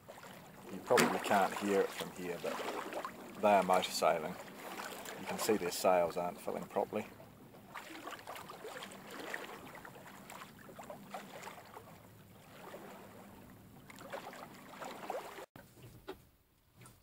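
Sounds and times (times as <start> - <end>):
waves lapping against boat hull: 0.0 - 16.2.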